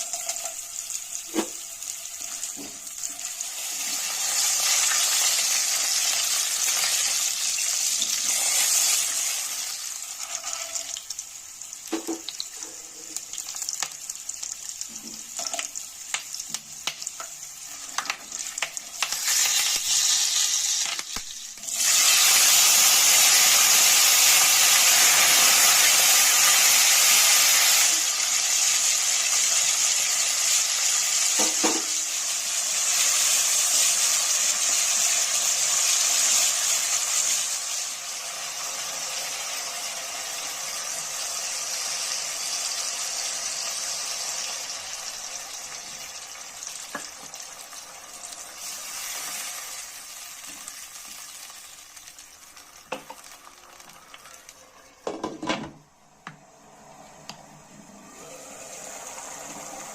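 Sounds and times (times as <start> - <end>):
food sizzling in hot oil: 0.0 - 55.6, 57.9 - 59.9.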